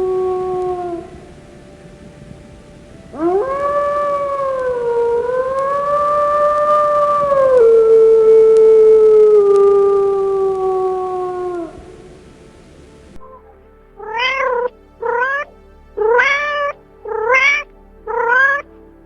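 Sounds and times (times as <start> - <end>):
dog howling: 0.0 - 15.4, 16.0 - 18.7.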